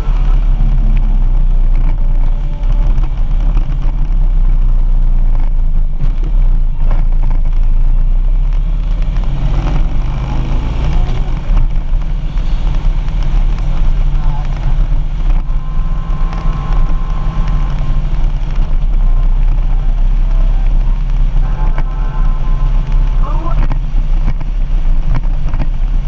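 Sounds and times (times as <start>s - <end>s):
wind buffeting: 0.0s - 8.4s, 9.0s - 26.0s
motorcycle engine rumbling: 0.0s - 26.0s.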